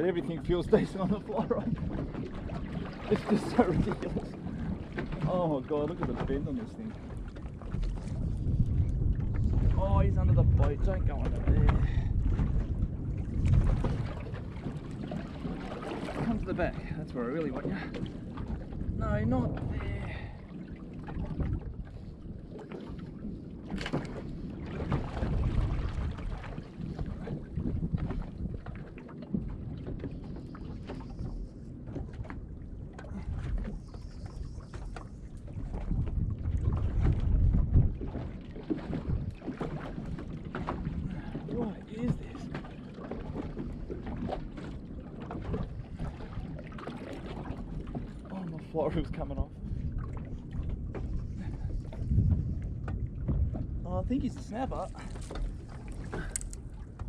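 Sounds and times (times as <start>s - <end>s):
water against boat hull: 0.0s - 57.0s
wind rumbling on microphone: 0.0s - 57.0s.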